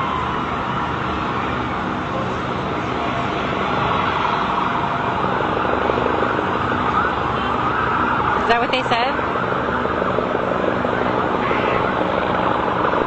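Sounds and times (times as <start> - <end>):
emergency vehicle sirens: 0.0 - 13.0
steady wash of noise: 0.0 - 13.0.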